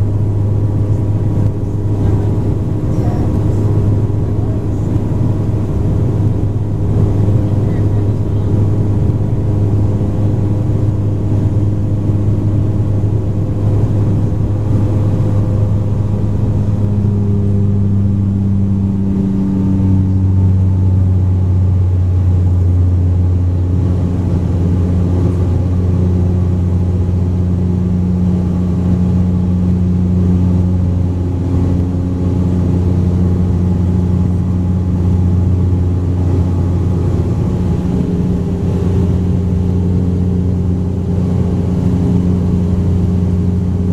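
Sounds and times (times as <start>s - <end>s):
turboprop engines droning: 0.0s - 43.9s.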